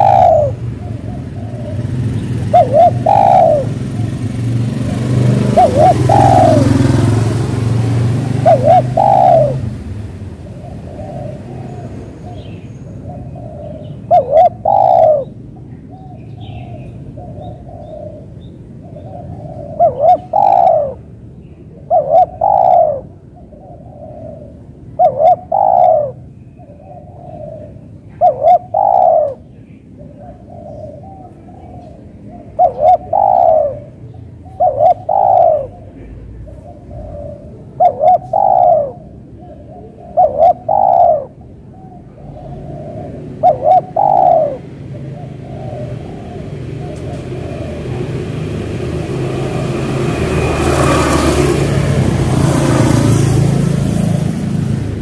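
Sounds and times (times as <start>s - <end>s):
dove cooing: 0.0s - 54.2s
motor vehicle passing: 0.0s - 55.0s.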